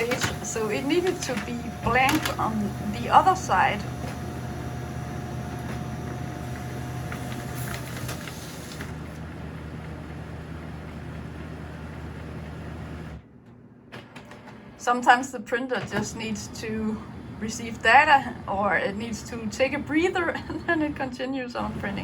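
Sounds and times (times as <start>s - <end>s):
laser printer humming: 0.0s - 13.1s, 15.9s - 22.0s
printer whine: 0.0s - 13.2s, 15.8s - 22.0s.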